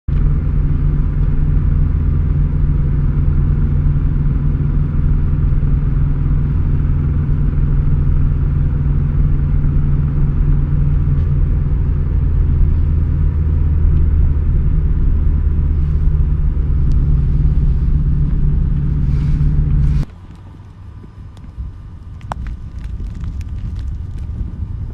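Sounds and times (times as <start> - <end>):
vehicle engine droning: 0.1 - 24.9.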